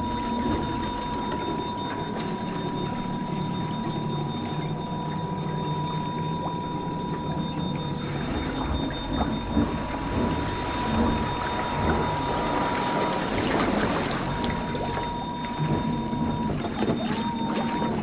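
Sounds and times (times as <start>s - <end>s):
hydraulic pump humming and whining: 0.0s - 18.0s
water sloshing and gurgling: 0.0s - 18.0s.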